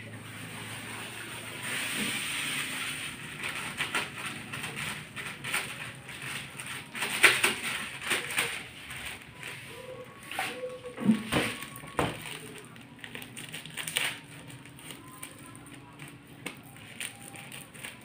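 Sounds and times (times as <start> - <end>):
plastic bags crinkling: 2.6 - 18.0.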